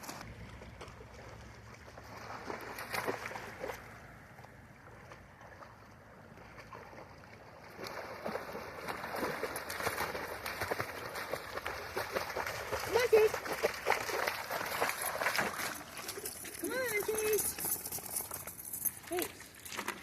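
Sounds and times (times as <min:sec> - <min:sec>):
dog splashing through water: 0:00.0 - 0:20.0.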